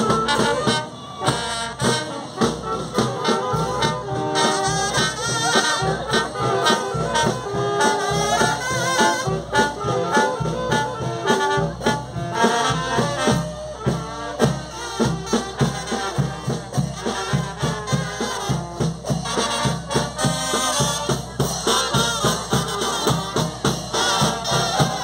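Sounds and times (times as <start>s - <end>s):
brass band music: 0.0s - 25.0s
steady drum beat: 0.0s - 25.0s.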